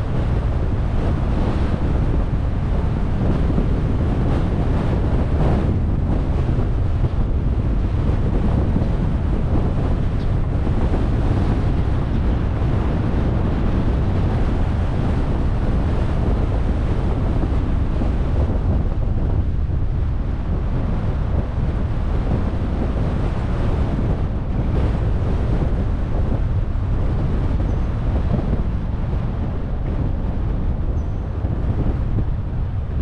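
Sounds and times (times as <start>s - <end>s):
car road and wind noise: 0.0s - 33.0s.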